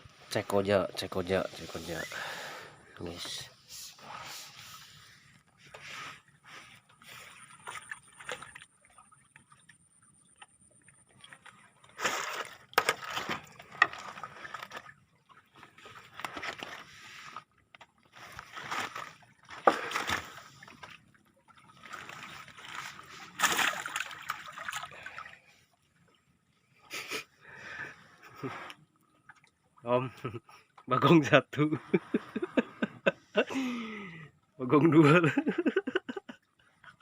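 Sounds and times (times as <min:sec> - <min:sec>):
water splashing and sloshing: 0:00.0 - 0:37.0.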